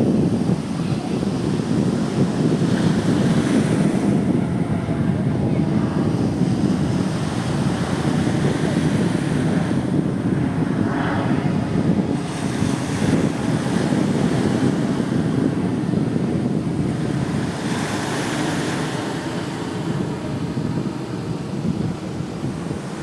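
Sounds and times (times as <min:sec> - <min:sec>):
sea surf rushing: 0:00.0 - 0:23.0
waves washing in: 0:00.0 - 0:23.0
wind buffeting microphone: 0:00.0 - 0:23.0.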